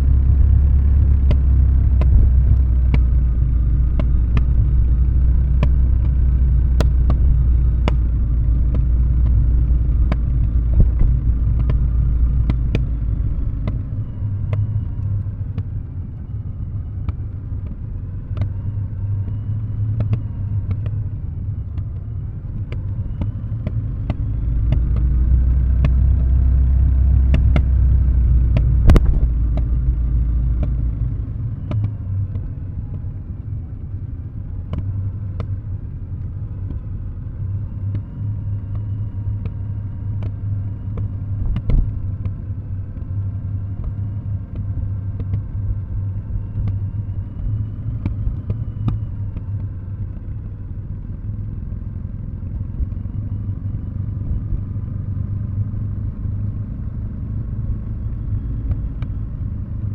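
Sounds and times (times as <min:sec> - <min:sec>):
motorcycle exhaust rumble: 0:00.0 - 0:59.9.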